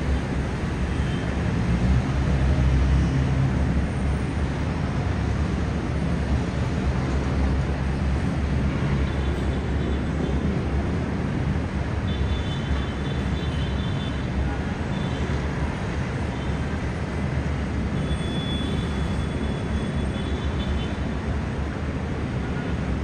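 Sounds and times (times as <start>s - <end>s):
heavy city traffic: 0.0s - 23.0s.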